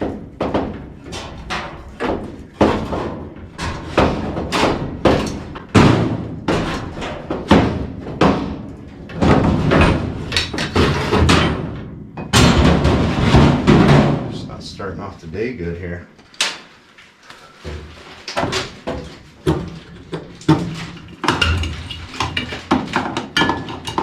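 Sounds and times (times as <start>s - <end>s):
tools knocking on metal parts: 0.0s - 14.2s, 17.7s - 24.0s.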